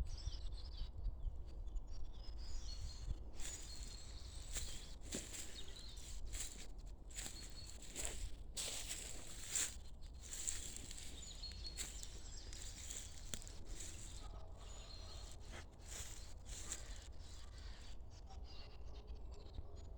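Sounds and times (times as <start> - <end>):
small birds chirping: 1.6 - 18.0.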